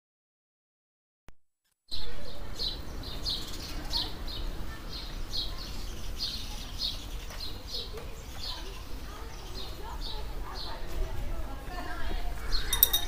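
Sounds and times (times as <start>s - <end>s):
street background rumble: 1.9s - 13.0s.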